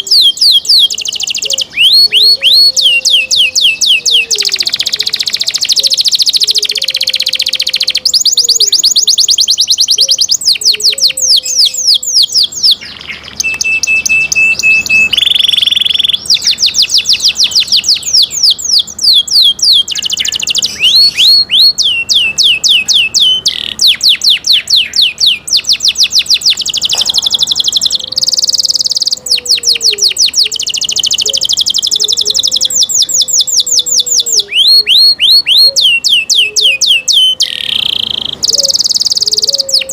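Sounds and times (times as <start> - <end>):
canary trilling: 0.0 - 39.9.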